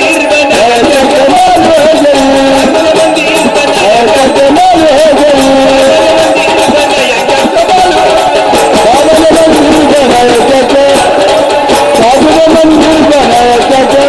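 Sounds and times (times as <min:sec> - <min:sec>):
small percussion beat: 0:00.0 - 0:14.0.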